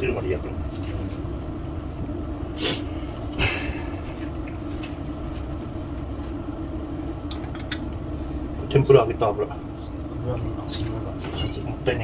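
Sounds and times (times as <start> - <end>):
gas burner rumbling: 0.0 - 12.0.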